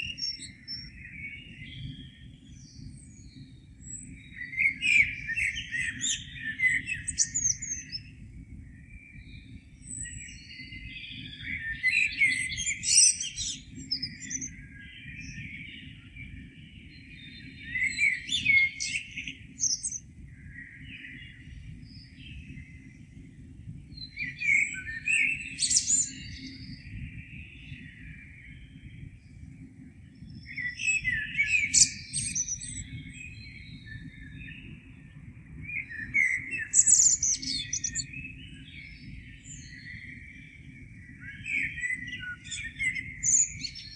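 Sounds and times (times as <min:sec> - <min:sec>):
quiet bird chirping: 0:00.0 - 0:43.9
songbird singing: 0:00.0 - 0:43.9.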